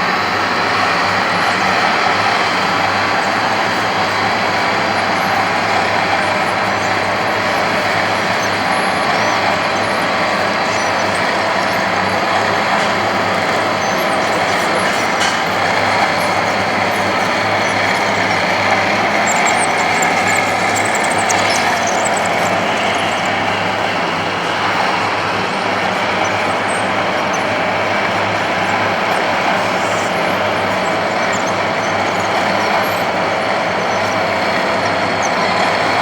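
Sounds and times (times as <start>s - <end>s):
mechanical drone with low hum: 0.0s - 36.0s.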